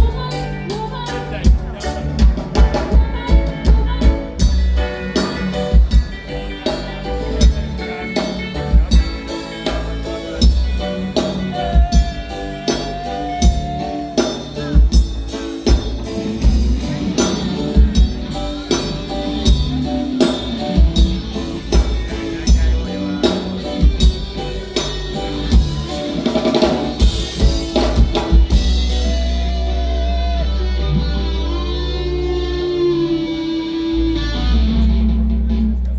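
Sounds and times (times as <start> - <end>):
drum kit beat: 0.0 - 30.3
live band playing: 0.0 - 35.9.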